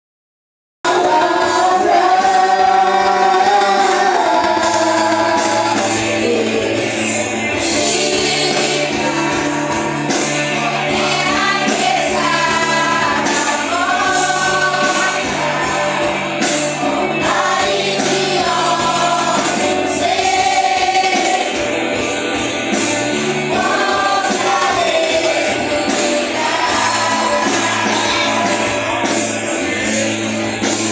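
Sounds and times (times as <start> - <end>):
band with bass and cymbals: 0.9 - 30.9
group singing gospel song: 0.9 - 30.9.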